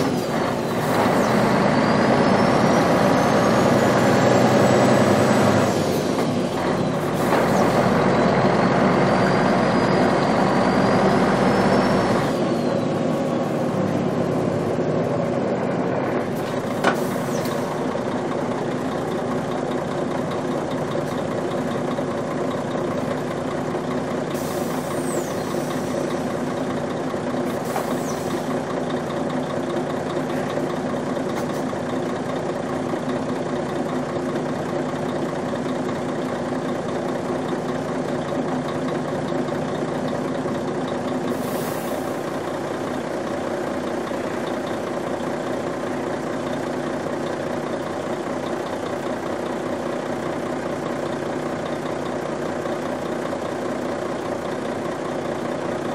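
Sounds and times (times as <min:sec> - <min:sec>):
truck engine whining under load: 0:00.0 - 0:55.9.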